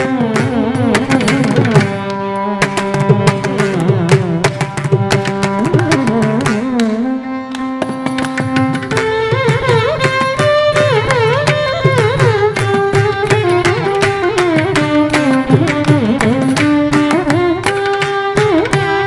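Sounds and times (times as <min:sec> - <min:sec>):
clay pot percussion: 0:00.0 - 0:06.9, 0:07.8 - 0:19.0
violins playing melody: 0:00.0 - 0:19.0.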